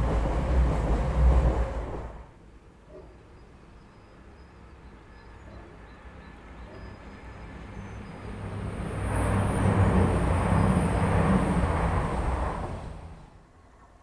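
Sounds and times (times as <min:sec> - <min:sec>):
wheels rumbling on rails: 0:00.0 - 0:02.4, 0:04.0 - 0:14.0
diesel train engine drone: 0:00.0 - 0:14.0.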